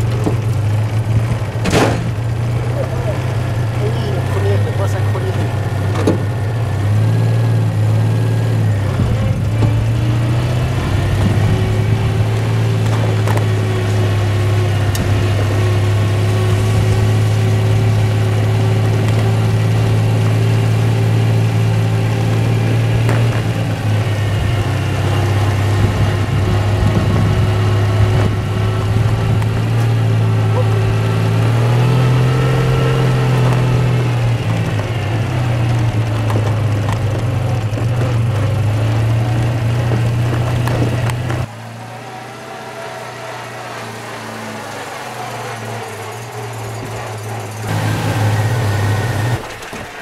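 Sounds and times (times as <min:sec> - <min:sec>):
car engine running: 0:00.0 - 0:50.0.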